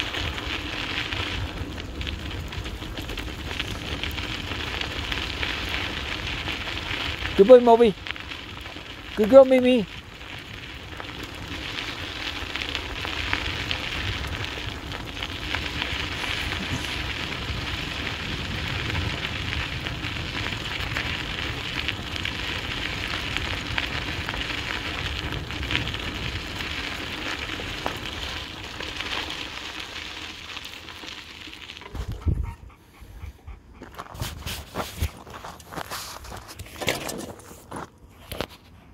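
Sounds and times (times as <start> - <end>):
wheels rolling over gravel: 0.0 - 38.8.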